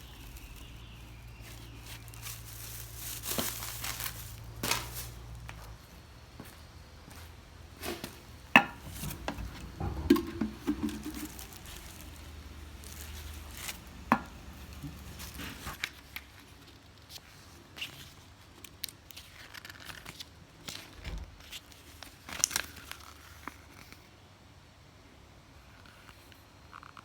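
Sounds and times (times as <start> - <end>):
clicks and rustling of small items: 0.0 - 5.8, 7.8 - 24.0.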